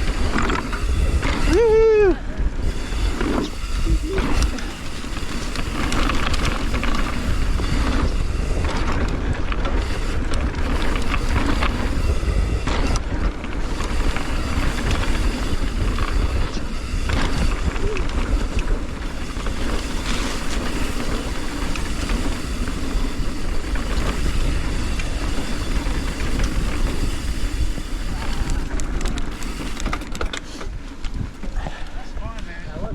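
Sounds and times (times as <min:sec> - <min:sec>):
bike clicks and rattles: 0:00.0 - 0:32.9
bike tyre noise on dirt: 0:00.0 - 0:32.9
wind buffeting microphone: 0:00.0 - 0:32.9.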